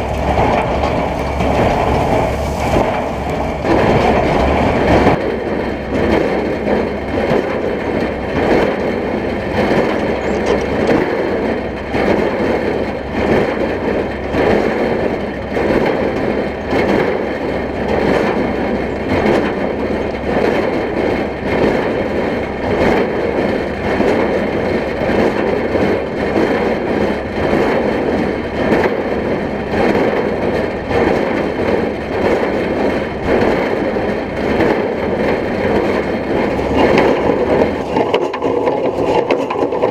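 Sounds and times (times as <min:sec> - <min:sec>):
baler mechanical clatter: 0:00.0 - 0:39.9
tractor engine running under load: 0:00.0 - 0:39.9.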